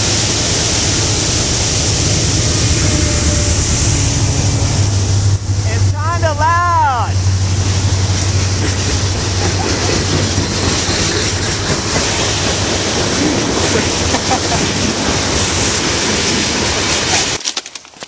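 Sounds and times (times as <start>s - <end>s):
train wheels rumbling on track: 0.0s - 17.4s.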